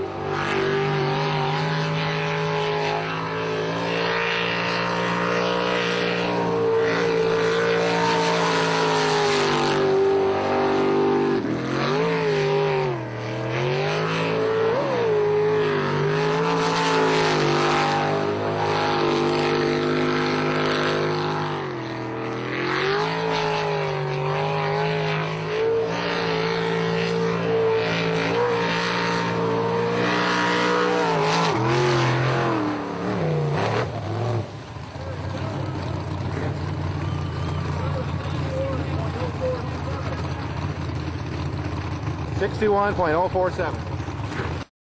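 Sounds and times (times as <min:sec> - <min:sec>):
jet boat engine revving: 0:00.0 - 0:44.7.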